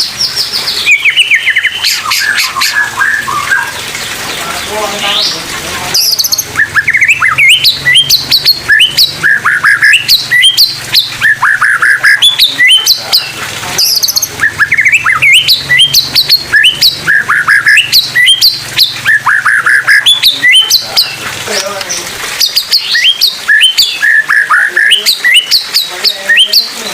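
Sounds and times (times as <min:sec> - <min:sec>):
songbird singing: 0:00.0 - 0:26.9.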